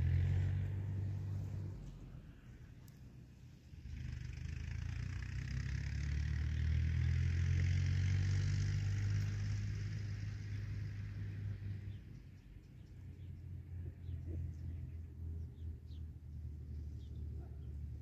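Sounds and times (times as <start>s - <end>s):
vehicle driving past: 0.0s - 18.0s.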